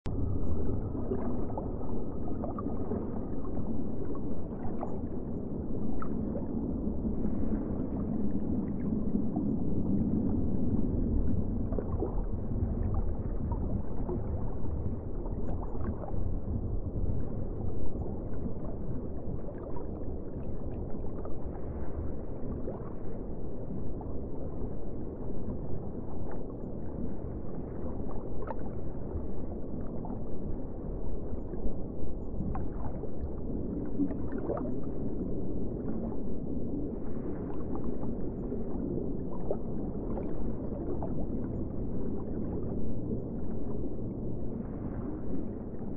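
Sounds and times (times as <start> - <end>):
muffled underwater rushing: 0.0 - 45.9
faint bubbling: 0.1 - 45.9.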